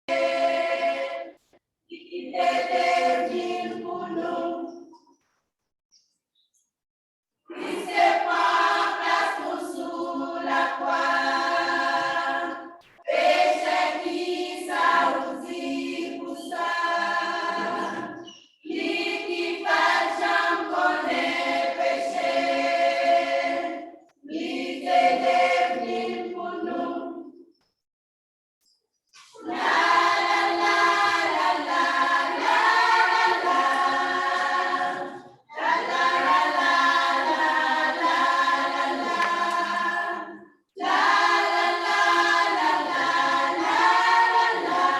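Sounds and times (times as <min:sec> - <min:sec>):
choir singing a cappella: 0:00.0 - 0:05.2, 0:07.5 - 0:27.6, 0:29.2 - 0:44.9.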